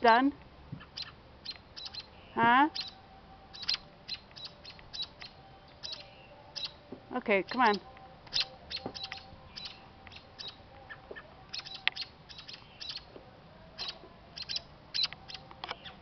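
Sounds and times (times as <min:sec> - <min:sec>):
robins giving alarm calls: 0:00.0 - 0:13.1, 0:13.8 - 0:16.0.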